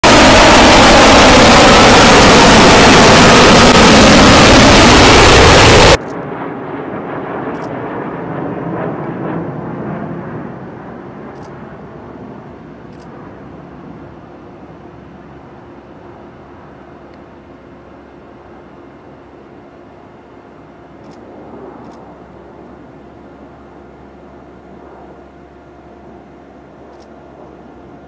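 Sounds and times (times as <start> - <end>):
distant jet rumble: 0.0 - 28.0
jet engine roar: 0.0 - 28.0.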